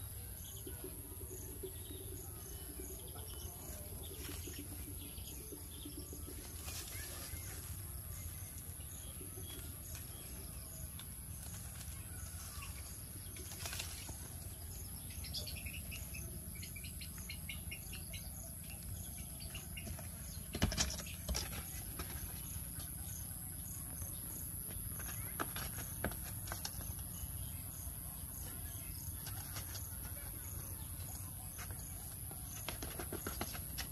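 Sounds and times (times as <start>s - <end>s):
birds chirping: 0.0s - 33.9s
insects: 0.0s - 33.9s.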